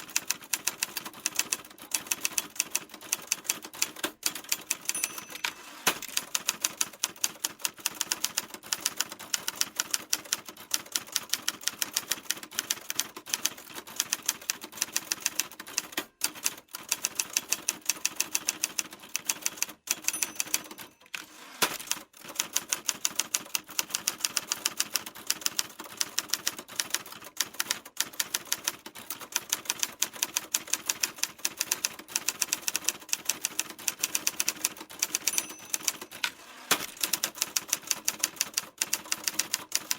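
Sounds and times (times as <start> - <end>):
typewriter keys clacking: 0.0 - 39.9.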